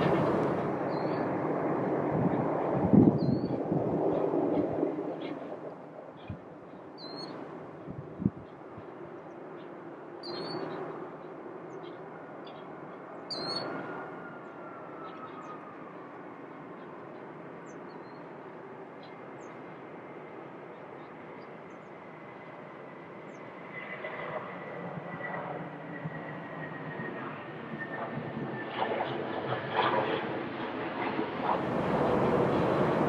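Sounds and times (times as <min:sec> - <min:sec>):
distant jet engines rushing: 0:00.0 - 0:33.0.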